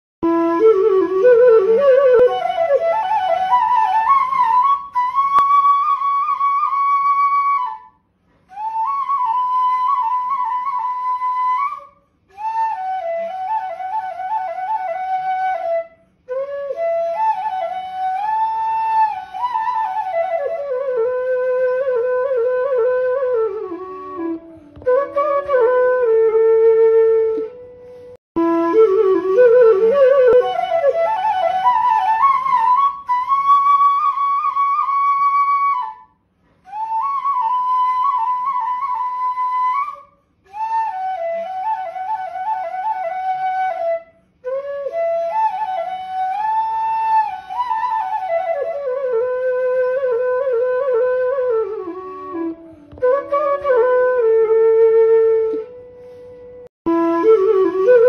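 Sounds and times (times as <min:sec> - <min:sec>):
solo flute melody: 0:00.2 - 0:58.0.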